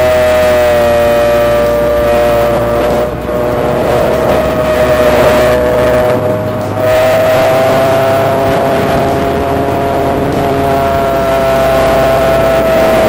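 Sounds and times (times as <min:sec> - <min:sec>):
model plane motor whine: 0:00.0 - 0:13.0
air rushing past: 0:01.6 - 0:13.0.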